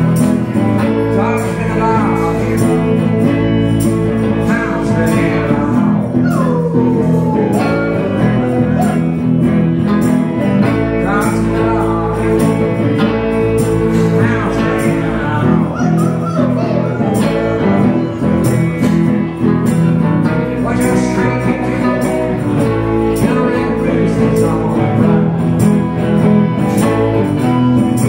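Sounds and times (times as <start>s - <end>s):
bending lead guitar line: 0.0s - 28.0s
live blues band: 0.0s - 28.0s
percussion hits: 0.0s - 28.0s.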